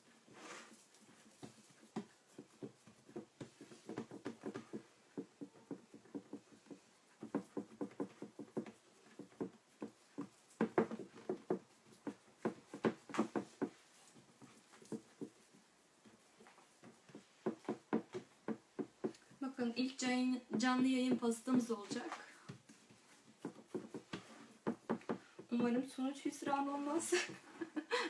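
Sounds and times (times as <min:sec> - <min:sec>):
fingertips patting dough: 0:00.0 - 0:28.0.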